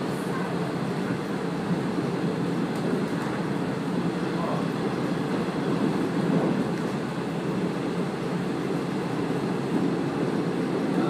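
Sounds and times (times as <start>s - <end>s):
railcar running rumble: 0.0s - 11.0s.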